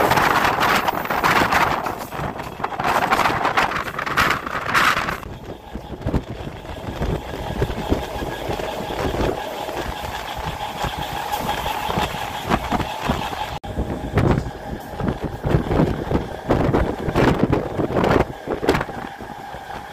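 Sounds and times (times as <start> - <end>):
train rolling rumble: 0.0 - 19.9
wheels clattering on rails: 0.0 - 19.9.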